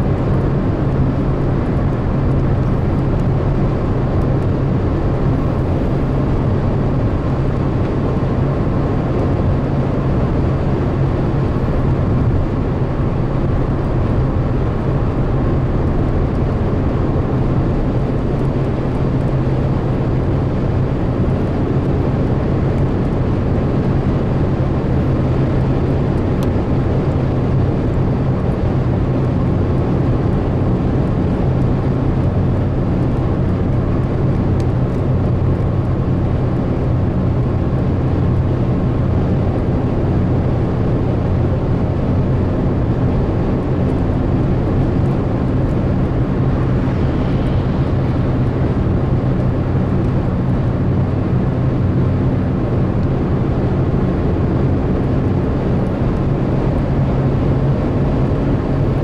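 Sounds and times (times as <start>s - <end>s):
car engine drone: 0.0s - 59.0s
road and tyre noise: 0.0s - 59.0s.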